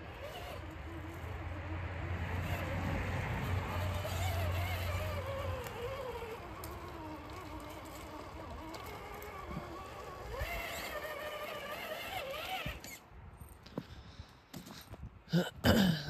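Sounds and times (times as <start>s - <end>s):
toy car electric motor whining: 0.0s - 13.1s.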